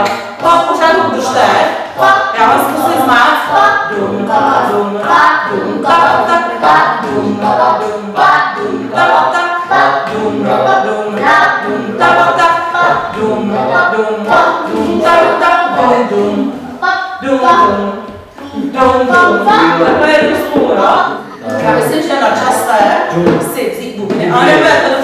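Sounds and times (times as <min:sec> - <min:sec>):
group singing a cappella: 0:00.0 - 0:23.4, 0:24.0 - 0:25.0.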